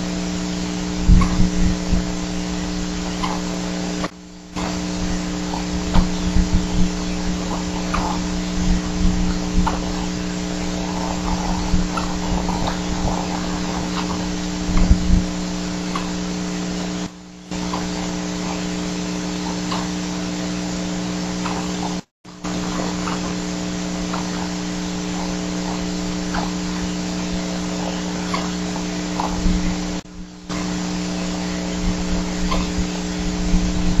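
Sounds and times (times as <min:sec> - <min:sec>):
steady electrical hum: 0:00.0 - 0:34.0
faint ticks: 0:01.1 - 0:20.6, 0:21.2 - 0:30.7, 0:32.4 - 0:32.9.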